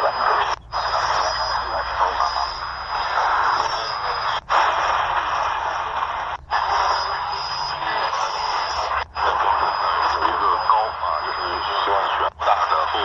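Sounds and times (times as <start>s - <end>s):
faint radio broadcasts: 0.0s - 13.0s
radio static and hiss: 0.0s - 13.0s.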